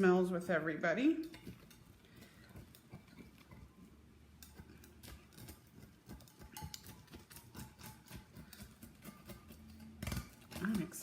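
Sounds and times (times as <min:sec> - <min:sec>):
plates and utensils clicking: 0:01.2 - 0:11.0.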